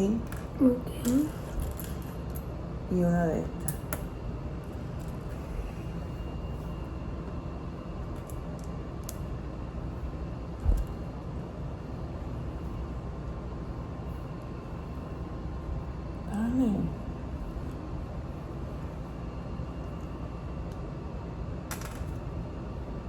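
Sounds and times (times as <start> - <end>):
faint hum: 0.0 - 23.0
low background rumble: 0.0 - 23.0.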